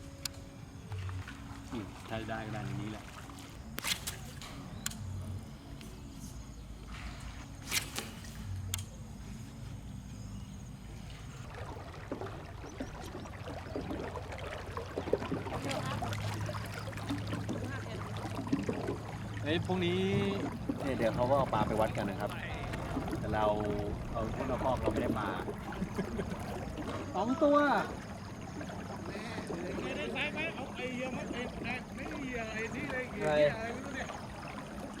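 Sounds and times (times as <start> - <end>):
small boat motor humming: 0.0 - 35.0.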